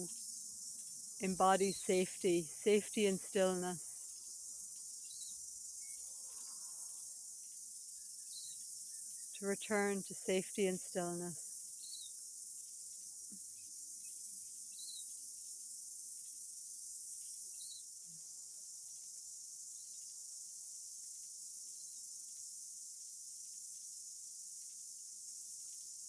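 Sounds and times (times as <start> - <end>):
crickets chorus: 0.0 - 26.0.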